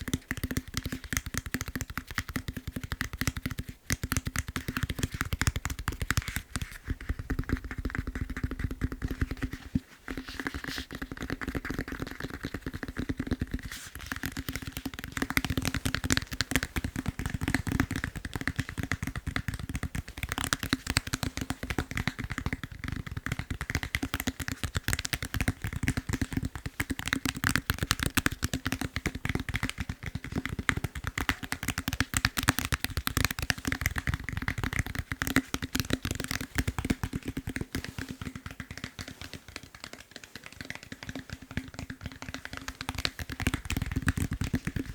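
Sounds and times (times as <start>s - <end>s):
fast tapping on foam roller: 0.0s - 44.9s.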